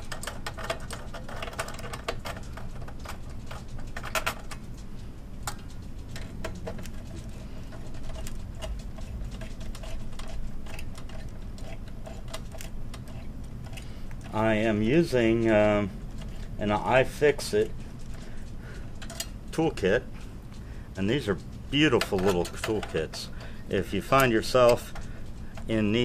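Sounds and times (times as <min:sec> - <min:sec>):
hands handling computer parts: 0:00.0 - 0:04.8, 0:05.4 - 0:20.6, 0:21.4 - 0:26.0.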